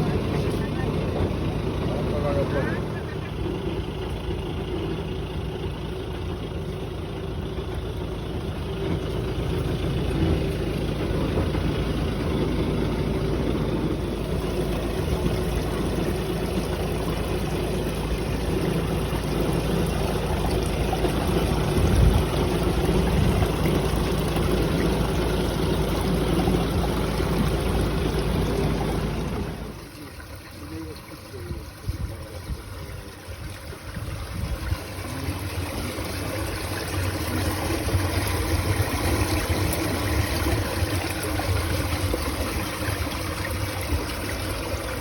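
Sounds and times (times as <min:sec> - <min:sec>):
truck engine and pump drone: 0:00.0 - 0:45.0.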